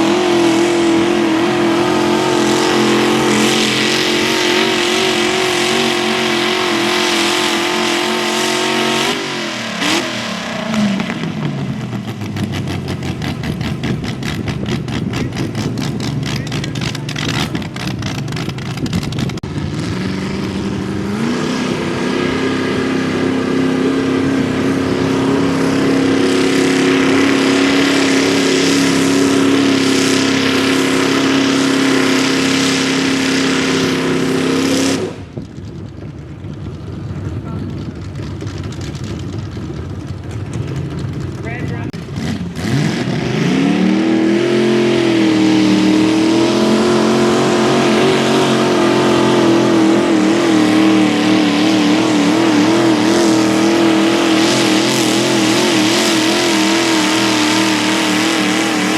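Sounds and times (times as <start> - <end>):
garden tractor engine revving: 0.0 - 35.4, 40.2 - 58.9.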